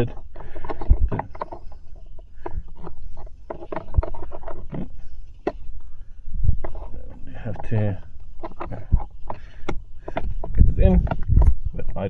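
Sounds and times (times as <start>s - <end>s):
plastic dongle clicking and scraping: 0.0s - 5.9s, 6.5s - 11.6s.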